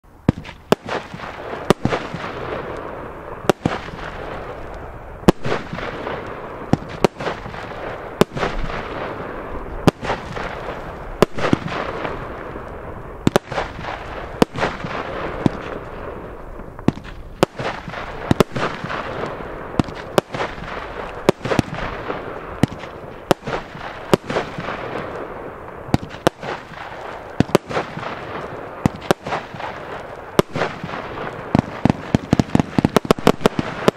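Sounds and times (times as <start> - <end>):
firework crackle: 0.0 - 33.9
firework bangs: 0.2 - 33.9.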